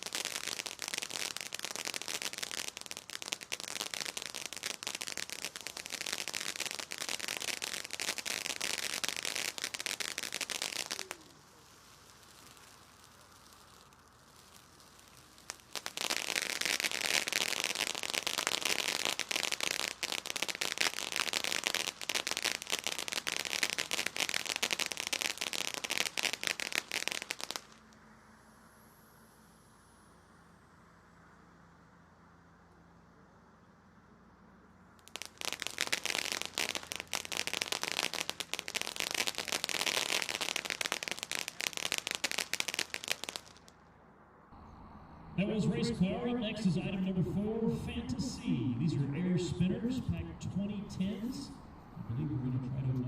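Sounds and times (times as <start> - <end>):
firework fountain crackling: 0.0 - 28.0, 35.0 - 43.9, 45.4 - 53.0.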